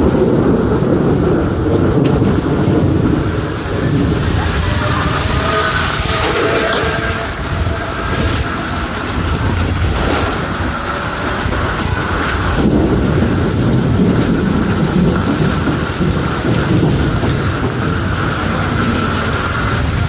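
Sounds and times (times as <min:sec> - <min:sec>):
heavy rain on an umbrella: 0:00.0 - 0:20.0
thunder rumbling: 0:00.0 - 0:20.0.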